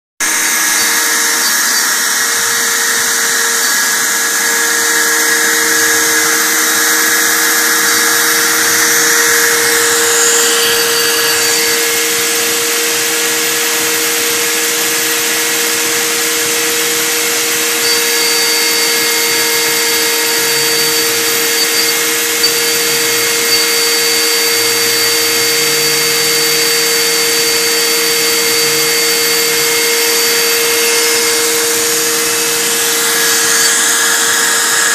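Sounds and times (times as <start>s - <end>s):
milling machine spindle whine: 0.2s - 34.9s.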